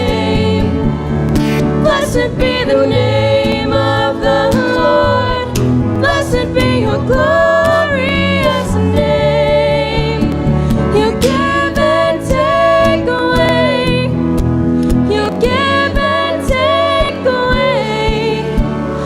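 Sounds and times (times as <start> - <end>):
instrumental accompaniment: 0.0 - 19.0
people singing worship song: 0.0 - 19.0.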